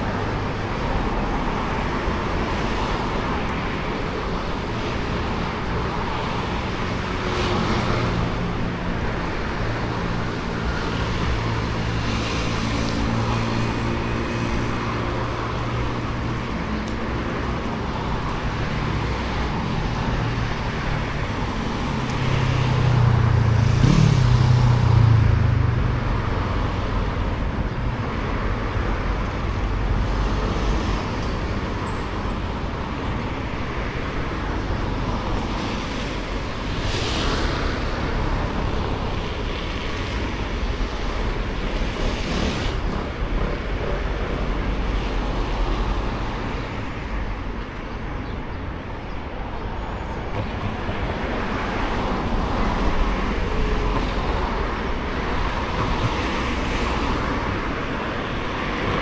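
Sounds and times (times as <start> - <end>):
passing cars: 0.0 - 59.0.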